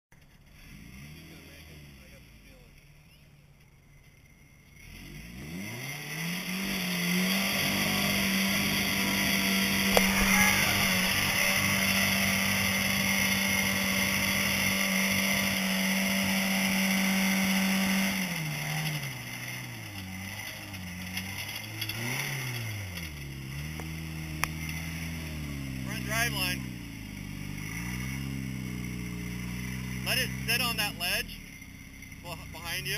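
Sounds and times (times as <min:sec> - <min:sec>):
engine revving: 0:00.2 - 0:03.2, 0:04.3 - 0:32.9.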